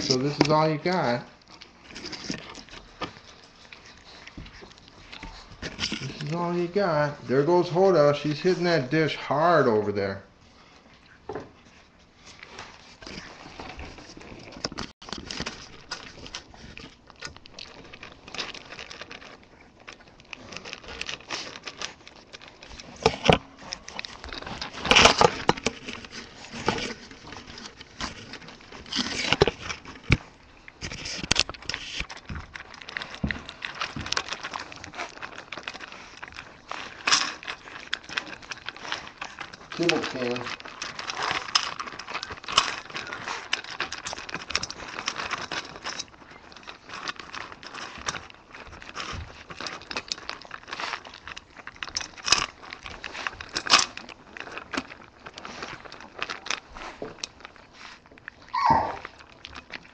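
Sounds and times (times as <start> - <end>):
puppies crunching kibble: 0.0 - 59.9.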